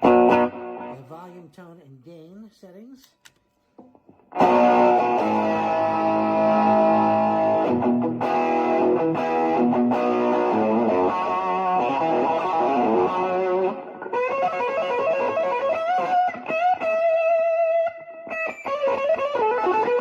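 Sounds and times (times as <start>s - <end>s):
distorted electric guitar chords: 0.0s - 1.0s, 4.0s - 20.0s.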